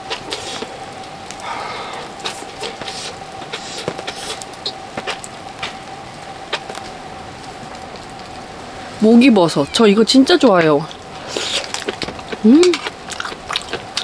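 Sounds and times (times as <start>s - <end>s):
faint steady hum: 0.0s - 14.0s
small fire crackling: 0.0s - 14.0s.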